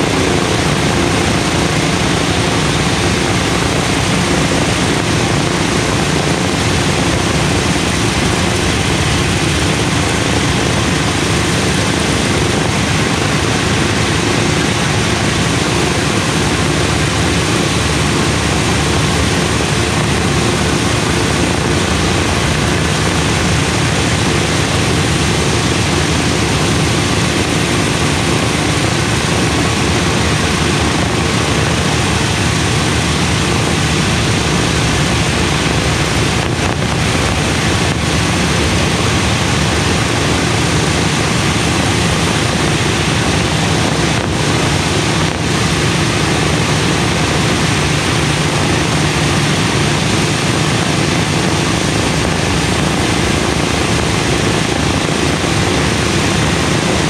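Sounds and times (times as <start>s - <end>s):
radial aircraft engines droning: 0.0s - 57.0s.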